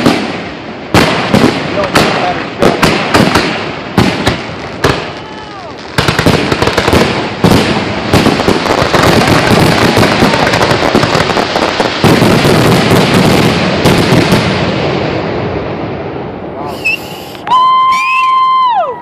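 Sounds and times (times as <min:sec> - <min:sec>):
heavy firework bangs: 0:00.0 - 0:17.2
fireworks booming and crackling: 0:00.0 - 0:18.8.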